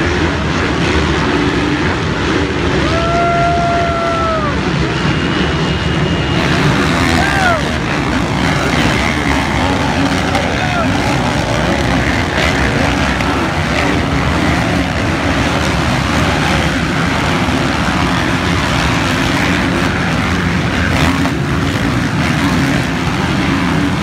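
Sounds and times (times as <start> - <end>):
dirt bike engines racing: 0.0 - 24.0.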